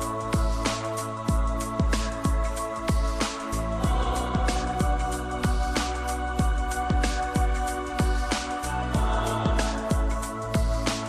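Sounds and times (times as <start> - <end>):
deep drum beat: 0.0 - 11.0.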